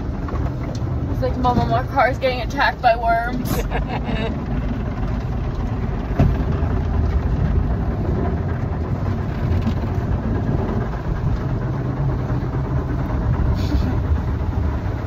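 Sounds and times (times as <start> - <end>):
car wash brushes and water: 0.0 - 15.0.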